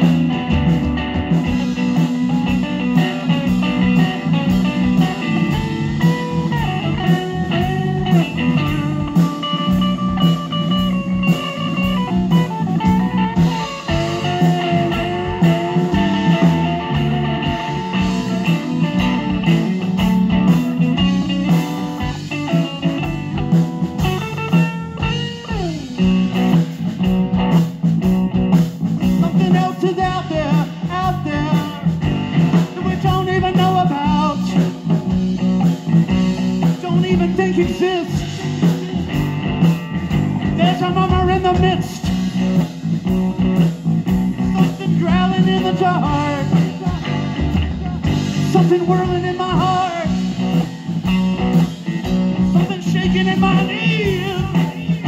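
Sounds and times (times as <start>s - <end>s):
blues-rock band music: 0.0s - 55.0s
lead guitar bending notes: 0.0s - 55.0s.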